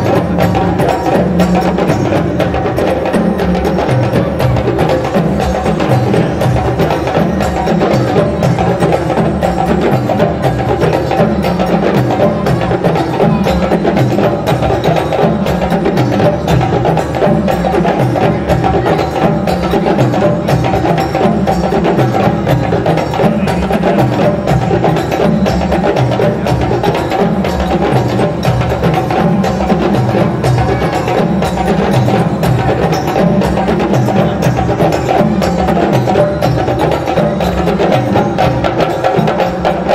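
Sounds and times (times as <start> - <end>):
djembe hand drums playing: 0.0 - 39.9.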